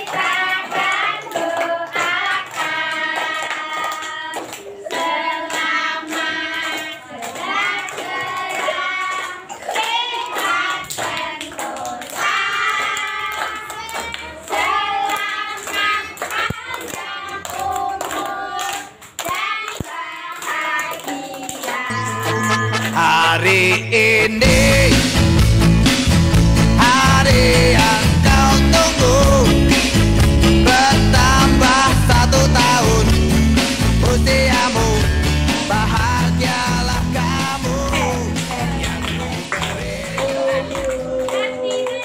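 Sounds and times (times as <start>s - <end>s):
group singing a celebration song: 0.0s - 42.0s
hands clapping: 0.0s - 42.0s.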